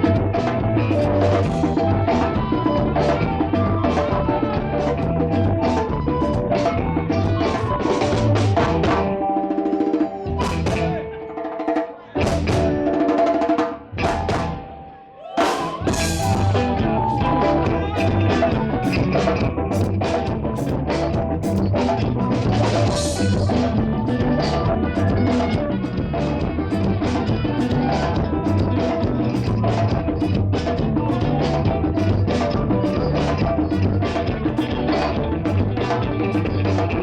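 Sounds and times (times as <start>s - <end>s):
live band with drums and guitar: 0.0s - 37.0s.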